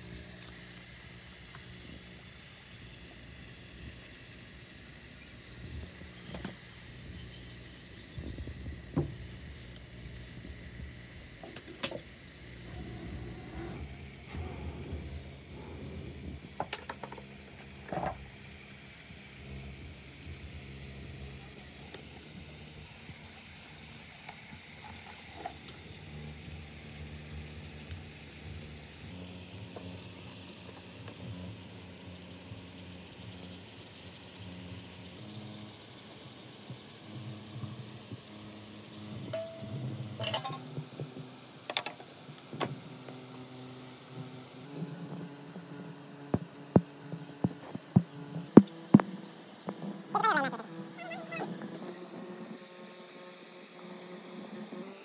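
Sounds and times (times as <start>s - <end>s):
chicken sizzling in a wok: 0.0s - 55.0s.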